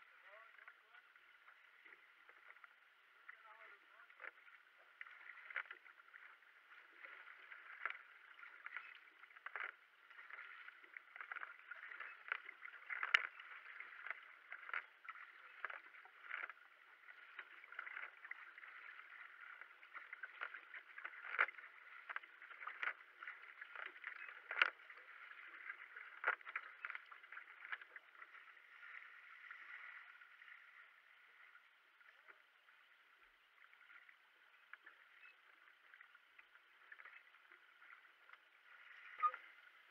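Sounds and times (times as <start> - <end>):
paddle blades splashing: 0.0 - 39.9
water rushing along hull: 0.0 - 39.9.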